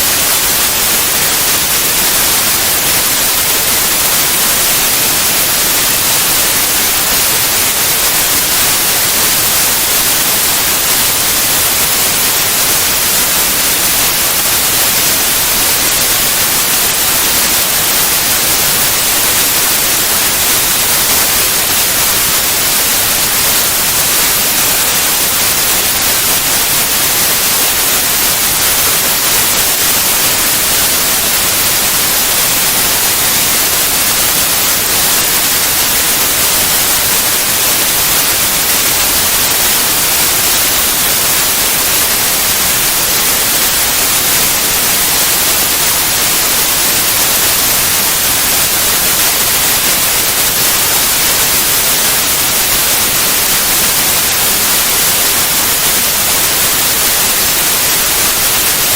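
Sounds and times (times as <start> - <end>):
steady white noise hiss: 0.0 - 58.9.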